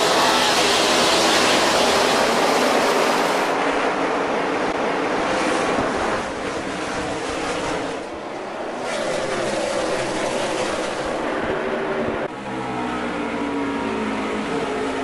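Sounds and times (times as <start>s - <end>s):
race cars engines roaring: 0.0s - 15.0s.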